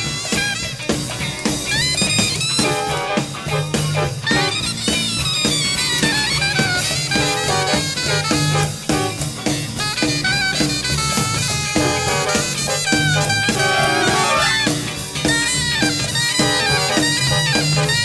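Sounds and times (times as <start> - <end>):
bass line: 0.0 - 18.0
drums: 0.0 - 18.0
saxophone melody: 0.0 - 18.0.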